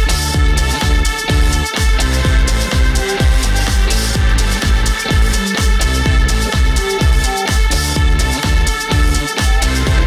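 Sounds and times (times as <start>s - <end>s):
electronic dance music: 0.0s - 10.0s
fast kick drum beat: 0.0s - 10.0s.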